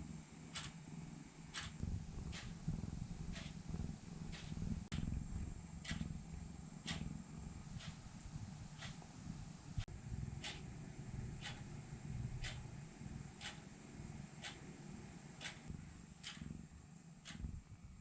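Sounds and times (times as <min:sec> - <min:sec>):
cat purring: 0:00.4 - 0:18.0.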